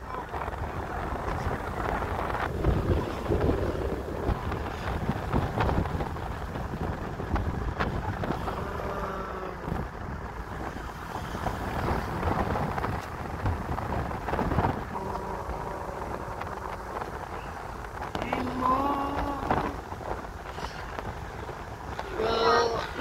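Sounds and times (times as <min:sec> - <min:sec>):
car rumble and tyres on road: 0:00.0 - 0:23.0
wind buffeting microphone: 0:00.0 - 0:23.0.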